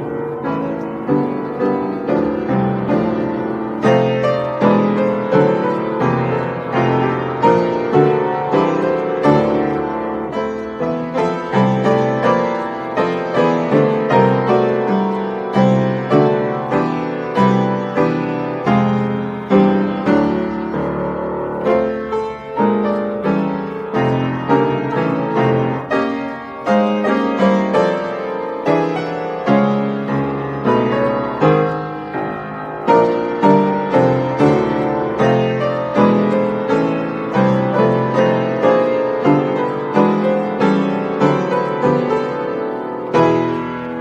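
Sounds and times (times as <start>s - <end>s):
upright piano playing classical piece: 0.0s - 44.0s.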